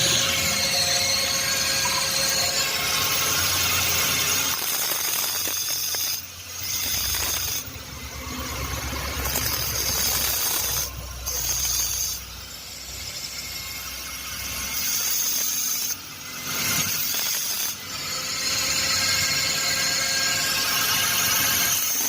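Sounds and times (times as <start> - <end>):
power tool grinding metal pipe: 0.0 - 22.0.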